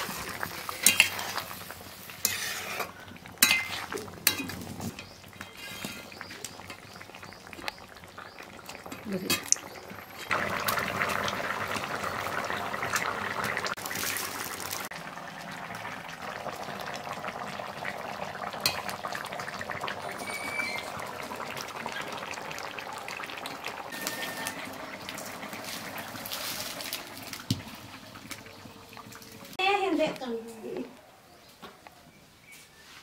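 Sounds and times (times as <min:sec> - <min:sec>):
curry bubbling: 0:00.0 - 0:29.7.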